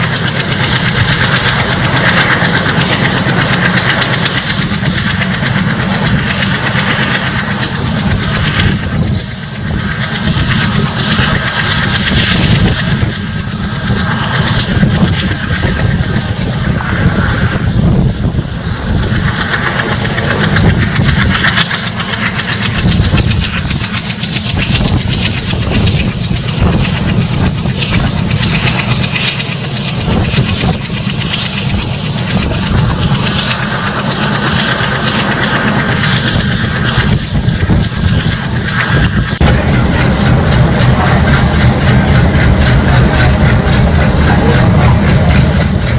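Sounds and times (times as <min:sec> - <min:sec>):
diesel locomotive chugging: 0:00.0 - 0:45.9
wheels rumbling on rails: 0:00.0 - 0:45.9.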